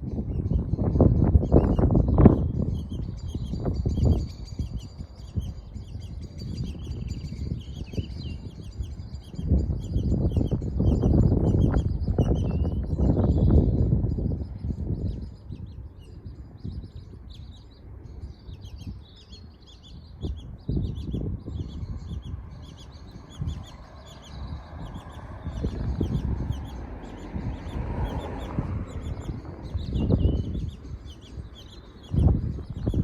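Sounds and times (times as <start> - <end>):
birds chirping: 0.0 - 33.0
low rumbling noise: 0.0 - 33.0.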